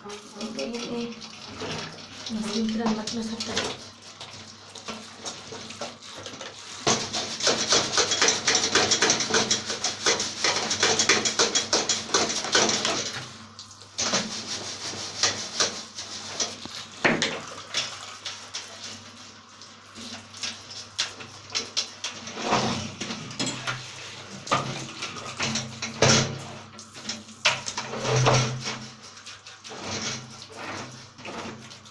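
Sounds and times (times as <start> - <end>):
water spraying onto plastic: 0.0 - 31.9
rubbing and scraping: 0.3 - 13.4, 14.0 - 17.1, 17.8 - 31.9.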